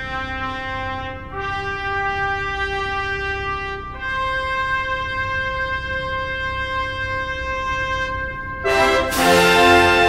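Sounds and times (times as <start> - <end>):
brass-like held notes music: 0.0 - 10.0.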